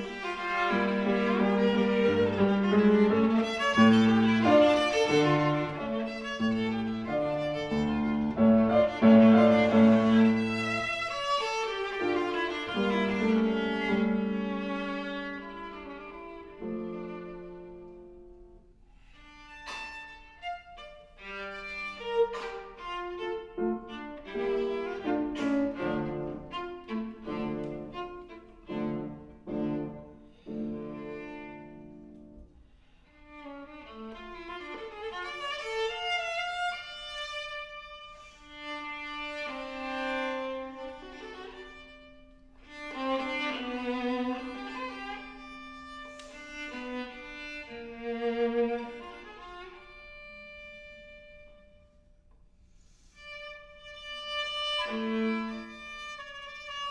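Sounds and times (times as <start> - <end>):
viola playing chamber music: 0.0 - 52.0, 53.2 - 56.9.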